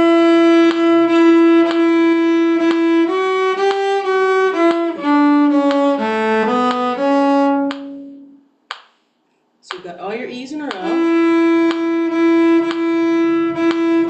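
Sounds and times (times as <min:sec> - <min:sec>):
fiddle playing a reel: 0:00.0 - 0:08.4, 0:10.7 - 0:14.0.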